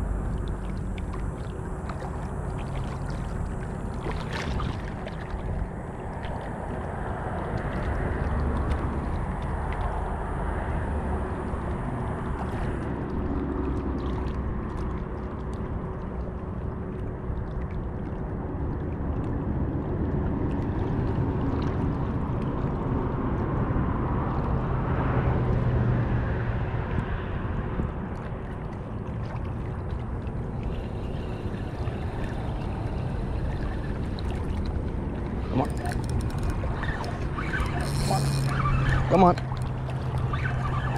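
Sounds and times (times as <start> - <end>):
water noise: 0.0 - 40.9
wind: 0.0 - 40.9.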